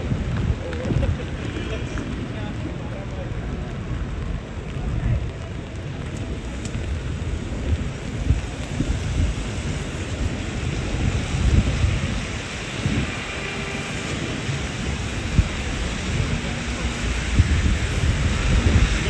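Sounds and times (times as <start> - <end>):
hiss of falling rain: 0.0 - 19.0.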